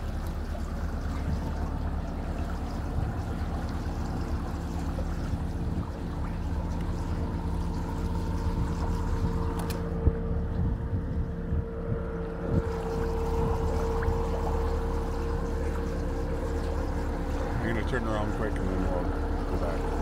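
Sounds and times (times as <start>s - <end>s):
boat motor humming: 0.0s - 20.0s
water rushing past boat: 0.0s - 20.0s
wind rumble on microphone: 0.0s - 20.0s.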